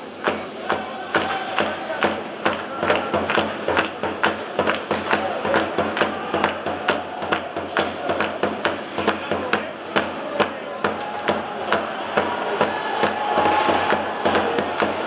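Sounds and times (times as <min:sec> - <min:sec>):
spectators banging rhythmic knocks: 0:00.0 - 0:15.0.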